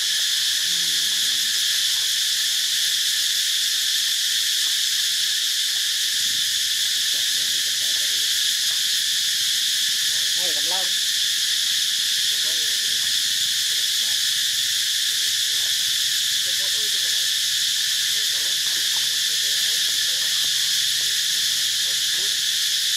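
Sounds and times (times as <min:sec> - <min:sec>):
forest insects chorus: 0:00.0 - 0:22.9.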